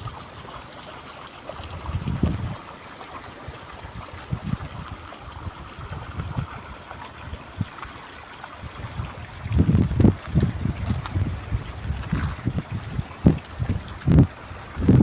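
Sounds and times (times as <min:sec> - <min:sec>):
stream trickling: 0:00.0 - 0:15.0.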